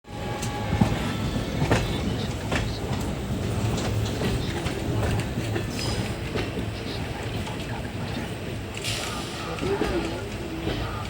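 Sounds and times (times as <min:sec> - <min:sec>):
train rumbling: 0:00.1 - 0:11.0.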